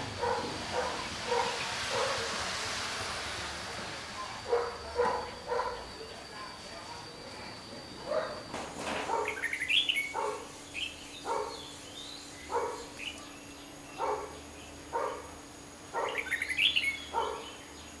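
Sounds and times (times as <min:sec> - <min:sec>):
birds warbling chirps: 0:00.0 - 0:02.2, 0:04.2 - 0:18.0.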